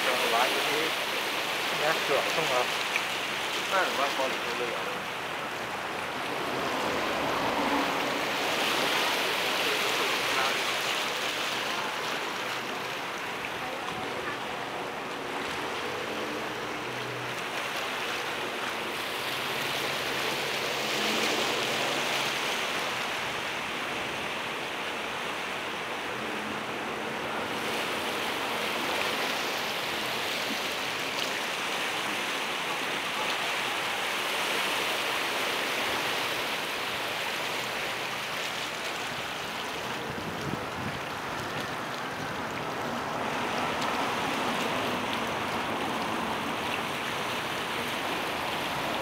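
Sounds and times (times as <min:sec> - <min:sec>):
rushing harbour water: 0:00.0 - 0:49.0.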